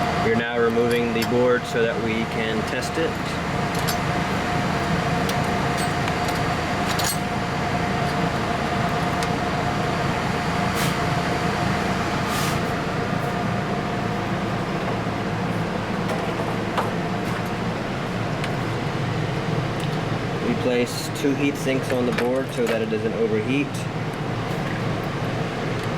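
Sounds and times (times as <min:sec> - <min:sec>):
fan humming: 0:00.0 - 0:25.9.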